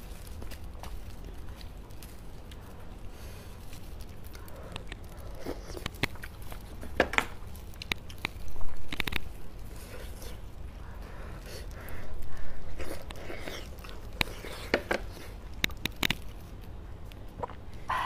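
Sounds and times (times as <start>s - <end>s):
wet eating clicks and mouth noises: 0.2s - 18.0s.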